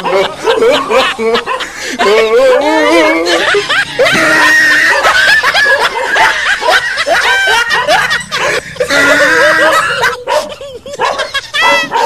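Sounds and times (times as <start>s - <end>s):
person snickering and chuckling: 0.0s - 12.0s.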